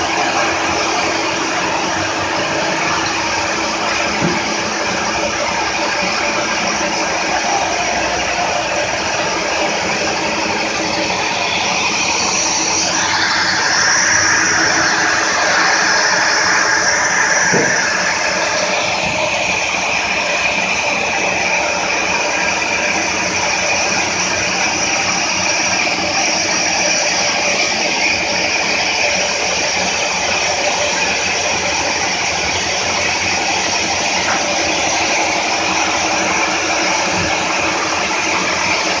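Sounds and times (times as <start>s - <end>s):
band sawmill cutting log: 0.0s - 39.0s.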